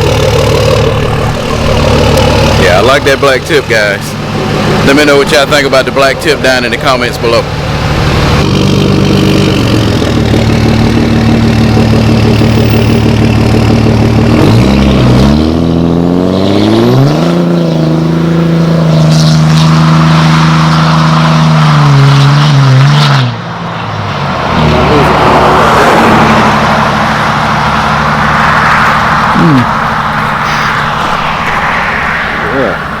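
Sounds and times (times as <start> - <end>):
diesel truck engine running hard: 0.0 - 33.0.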